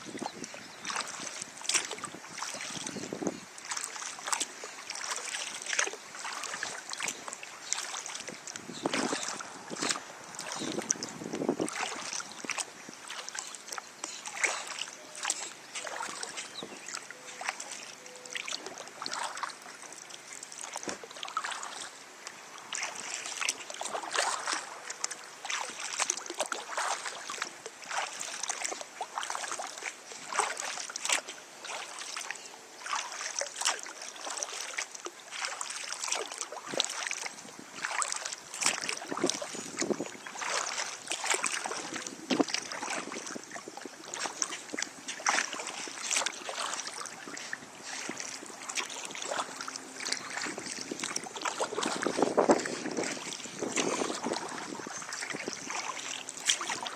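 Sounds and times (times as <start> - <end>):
kayak paddle splashing water: 0.0 - 56.9.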